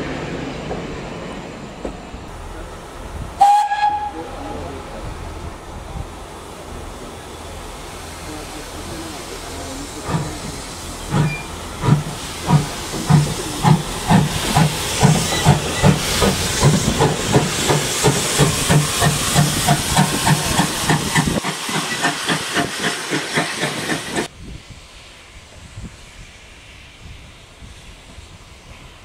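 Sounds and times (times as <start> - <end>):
steam hissing: 2.3 - 29.0
steam locomotive exhaust chuffs: 2.3 - 29.0.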